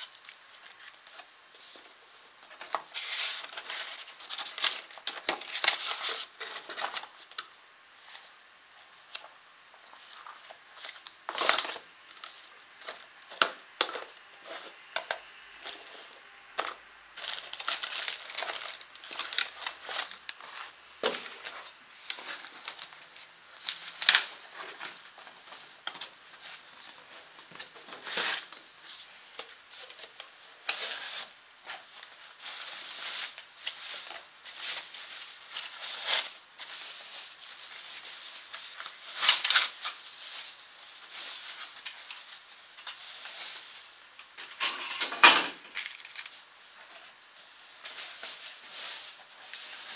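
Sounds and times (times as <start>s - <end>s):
packaging rustling and crinkling: 0.0s - 8.4s, 9.0s - 49.9s.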